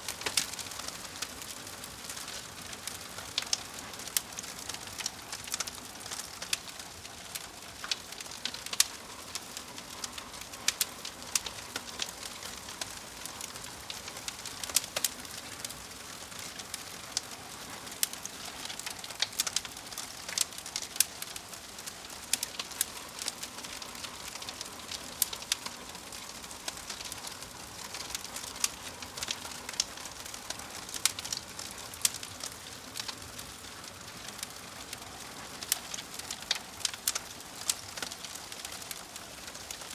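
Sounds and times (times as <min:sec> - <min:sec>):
soft hiss of fire: 0:00.0 - 0:39.9
wood fire crackling and popping: 0:00.0 - 0:39.9.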